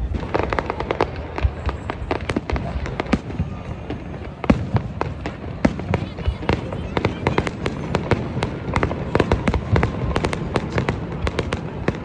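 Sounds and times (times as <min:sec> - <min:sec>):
fireworks bang: 0:00.0 - 0:12.0
fireworks cracking and popping: 0:00.0 - 0:12.0.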